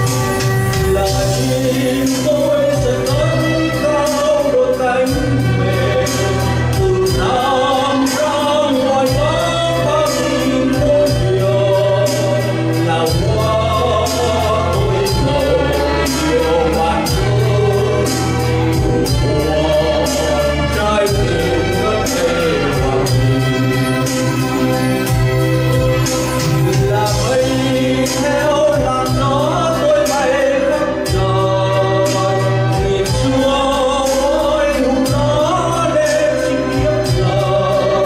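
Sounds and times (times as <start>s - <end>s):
amplified backing music: 0.0s - 38.0s
man singing into microphone: 0.0s - 38.0s.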